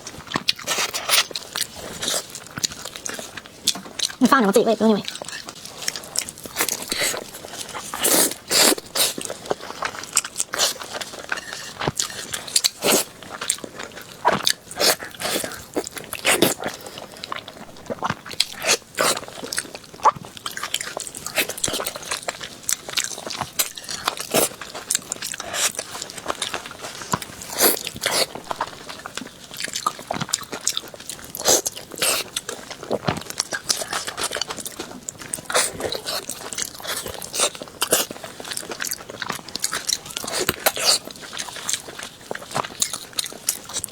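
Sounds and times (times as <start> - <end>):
crunchy food being chewed: 0.0 - 43.9.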